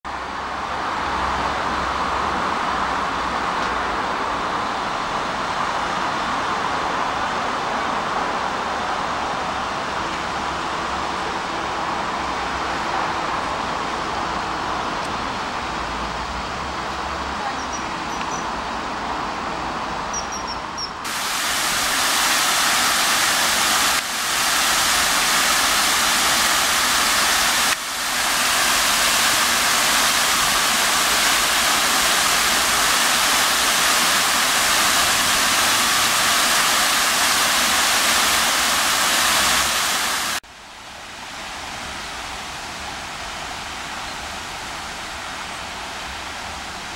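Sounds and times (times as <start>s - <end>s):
distant fountain water rush: 0.1s - 46.9s
fountain water splashing: 0.1s - 46.9s.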